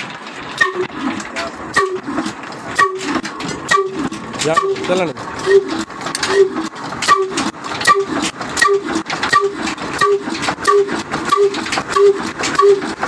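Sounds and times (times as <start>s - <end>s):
mechanical clatter: 0.0s - 13.0s
stationary diesel engine running: 0.0s - 13.0s.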